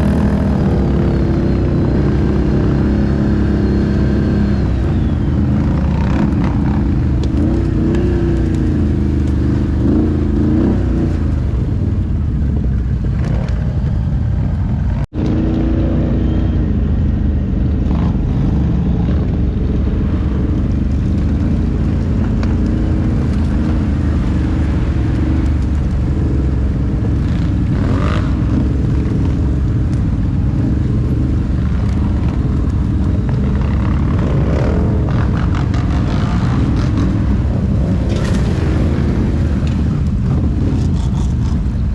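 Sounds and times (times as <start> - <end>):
atv engine revving: 0.0 - 11.7, 15.2 - 41.9.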